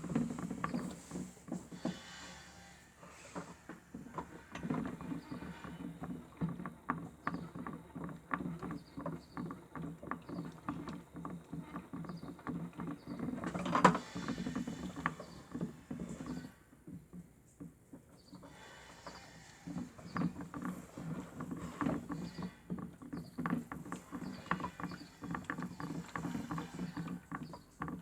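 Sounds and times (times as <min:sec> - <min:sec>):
water sloshing and clicking: 0:00.0 - 0:02.0, 0:03.3 - 0:28.0
toy washing machine motor humming: 0:00.0 - 0:28.0.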